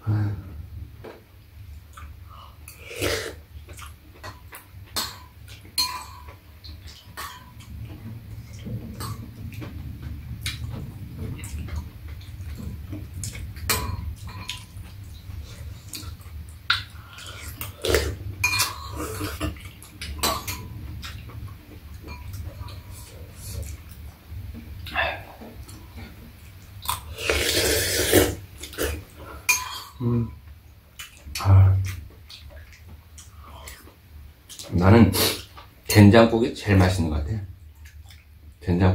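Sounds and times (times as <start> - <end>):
low steady hum: 0.0 - 38.9
slurping and mouth noises: 1.9 - 30.4, 31.0 - 35.7.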